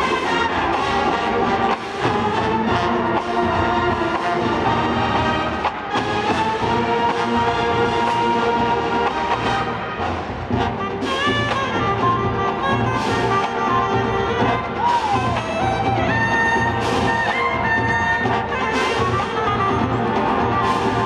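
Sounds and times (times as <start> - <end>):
marching band playing brass medley: 0.0 - 21.0.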